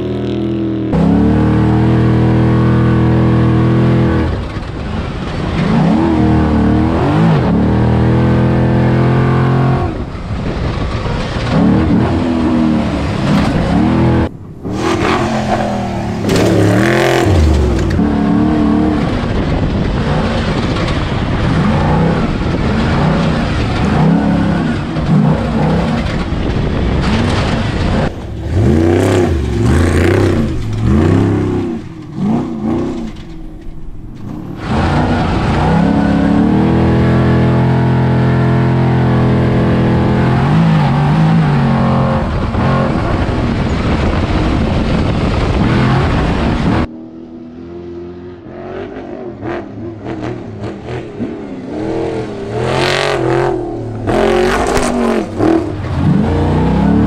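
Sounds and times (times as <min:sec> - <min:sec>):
rattling drivetrain and chassis: 0:00.0 - 0:57.0
truck engine revving: 0:00.0 - 0:57.0.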